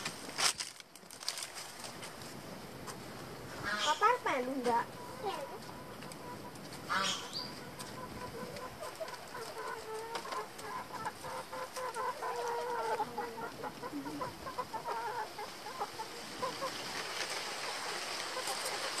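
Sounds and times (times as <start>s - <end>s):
chickens clucking: 2.8s - 19.0s.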